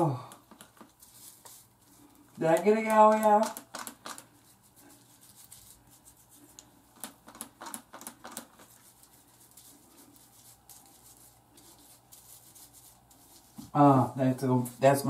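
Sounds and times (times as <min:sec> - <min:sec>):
fingers massaging lathered scalp: 0:00.3 - 0:15.0.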